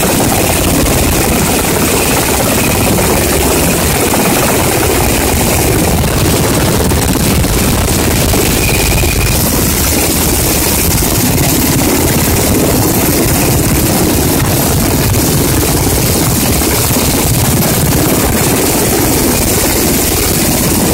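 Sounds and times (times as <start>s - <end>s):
helicopter turbine and rotor: 0.0s - 20.9s.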